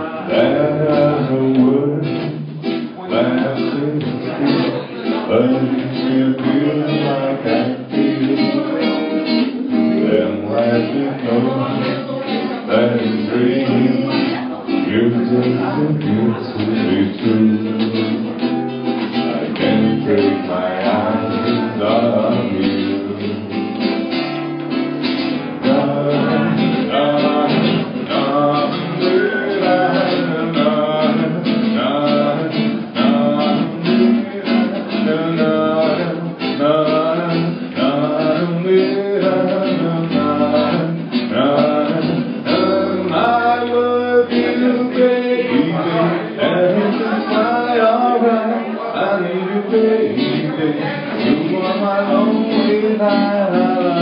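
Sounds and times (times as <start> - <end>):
acoustic guitar: 0.0 - 54.0
person singing: 0.0 - 54.0.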